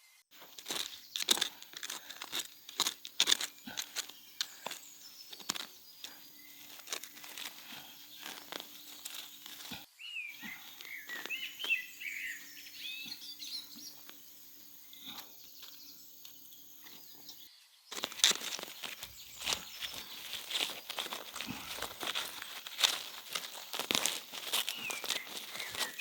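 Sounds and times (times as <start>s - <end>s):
bird chirps: 3.5s - 26.0s.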